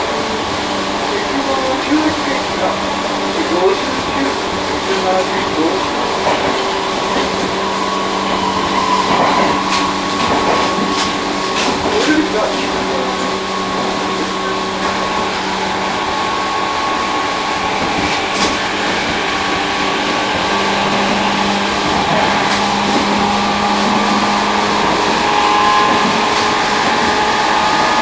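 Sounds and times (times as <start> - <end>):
train motor and gear hum: 0.0 - 28.0
wheel-on-rail rumble: 0.0 - 28.0.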